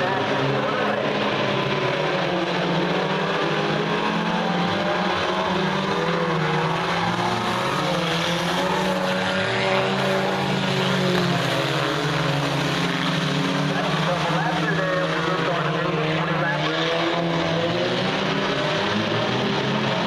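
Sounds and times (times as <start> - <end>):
race car engines at high revs: 0.0 - 20.0.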